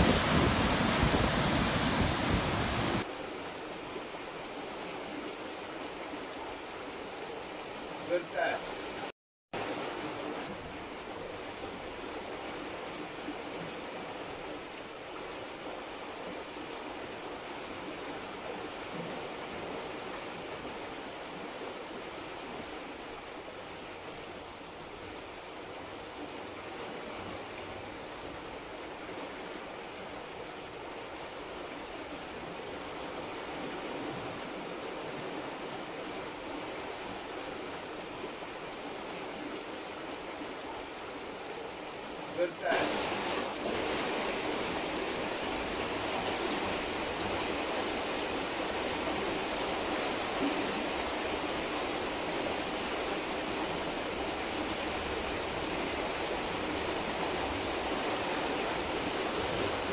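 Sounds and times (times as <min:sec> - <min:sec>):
rushing water hiss: 0:00.0 - 0:33.6, 0:34.8 - 0:59.9.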